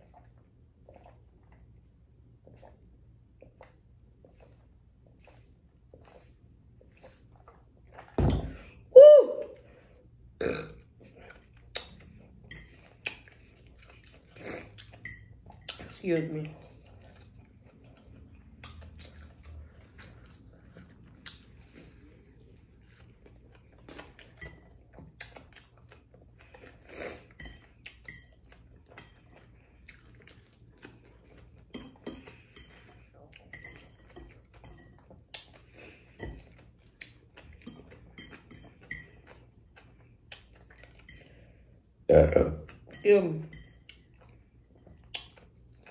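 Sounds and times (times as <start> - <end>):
soft chewing: 0.0 - 8.9, 9.5 - 45.9.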